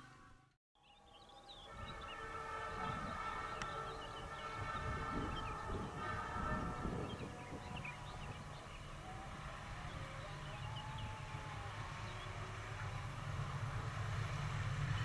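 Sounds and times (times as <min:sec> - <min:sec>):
train rumbling along track: 0:01.7 - 0:15.0.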